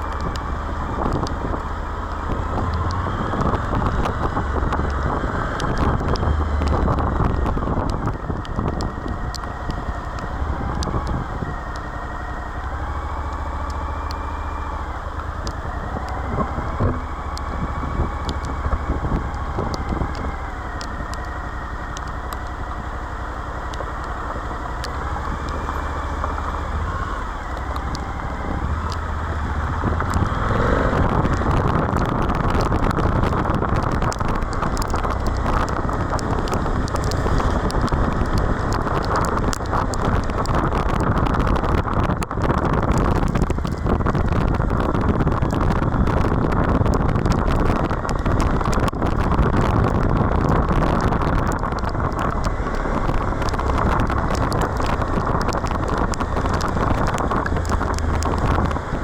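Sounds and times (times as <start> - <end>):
motorcycle engine running: 0.0 - 59.0
steady rushing noise: 0.0 - 59.0.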